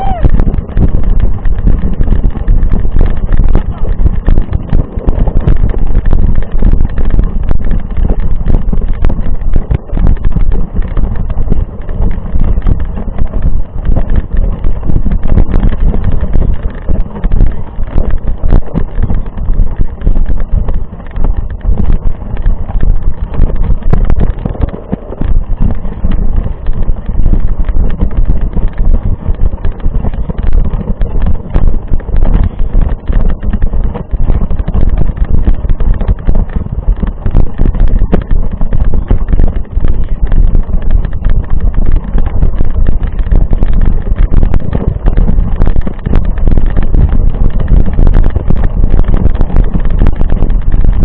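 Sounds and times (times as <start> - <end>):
bike rattling over rough ground: 0.0 - 51.0
wind buffeting microphone: 0.0 - 51.0.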